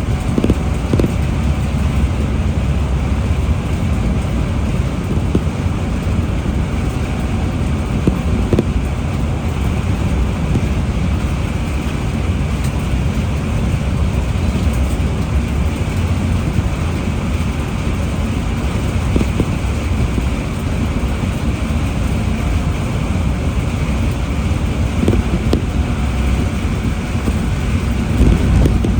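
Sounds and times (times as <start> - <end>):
low rumble: 0.0 - 28.9
road noise on wet highway: 0.0 - 28.9
wind noise: 0.0 - 28.9.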